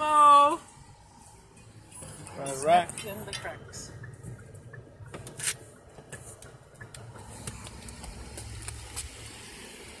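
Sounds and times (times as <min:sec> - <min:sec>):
low handling rumble: 0:00.0 - 0:10.0.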